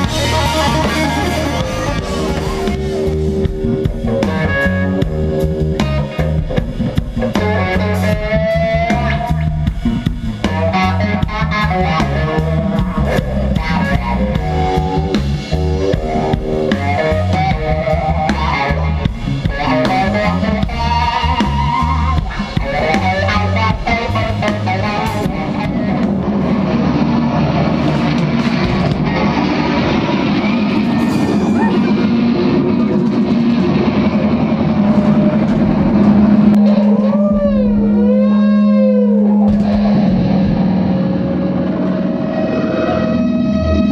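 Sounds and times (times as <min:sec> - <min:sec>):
electric guitar solo: 0:00.0 - 0:09.7, 0:10.4 - 0:43.9
bass guitar: 0:00.0 - 0:43.9
drums: 0:00.0 - 0:43.9.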